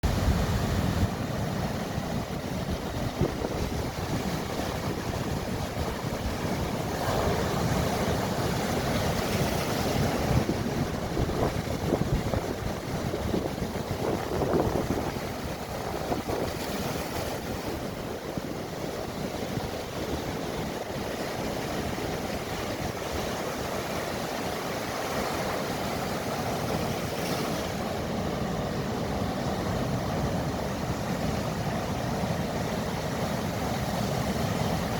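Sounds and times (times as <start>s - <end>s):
sea waves washing in: 0.0s - 34.9s.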